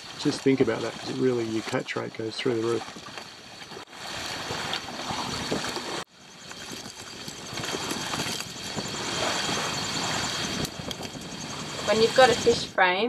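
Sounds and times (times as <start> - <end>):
fish splashing: 0.0 - 12.3
wind on microphone: 0.0 - 12.8
water rushing along hull: 0.0 - 12.9.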